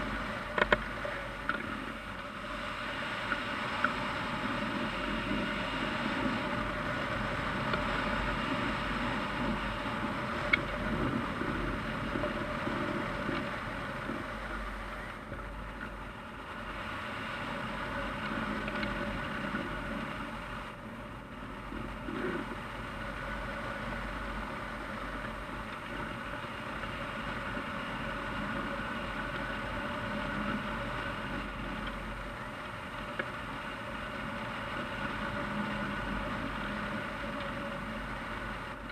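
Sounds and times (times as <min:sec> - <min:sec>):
wind noise on camera: 0:00.0 - 0:38.9.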